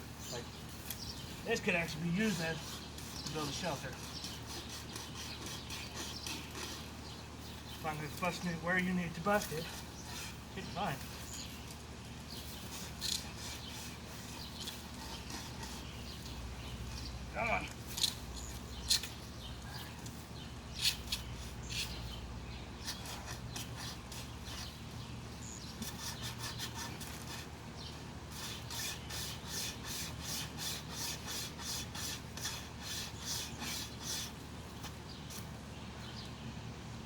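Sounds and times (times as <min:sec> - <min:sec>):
wire saw rasping through branch: 0:00.6 - 0:17.1, 0:17.7 - 0:22.2, 0:22.8 - 0:35.5.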